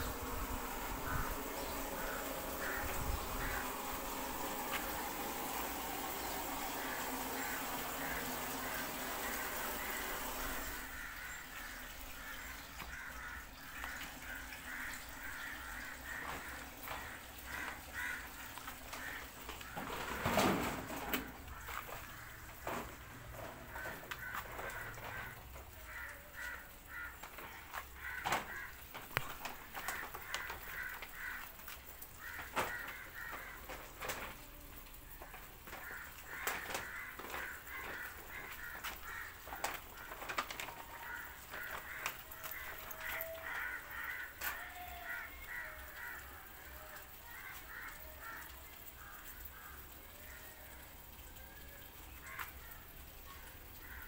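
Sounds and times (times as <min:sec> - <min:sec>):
rustle: 0:00.0 - 0:54.0.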